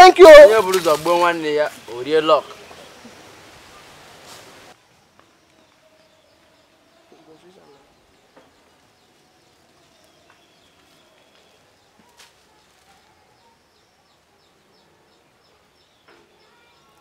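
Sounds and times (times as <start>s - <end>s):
birds or insects chirping: 0.0s - 17.0s.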